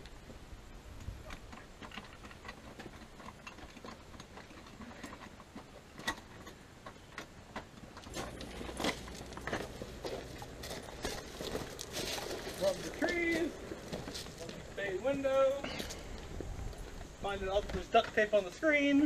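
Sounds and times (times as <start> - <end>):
footsteps on porch: 1.0 - 18.6.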